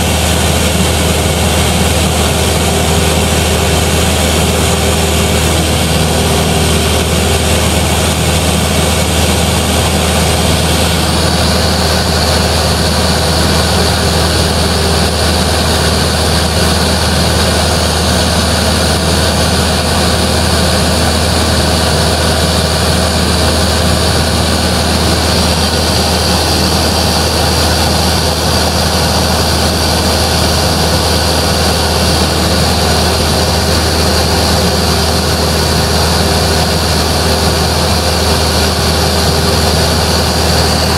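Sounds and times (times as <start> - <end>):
airplane engine drone: 0.0 - 40.9.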